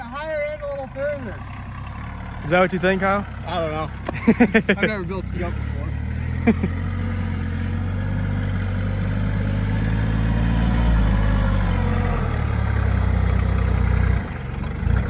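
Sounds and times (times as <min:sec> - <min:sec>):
engine running at low revs: 0:00.7 - 0:15.0.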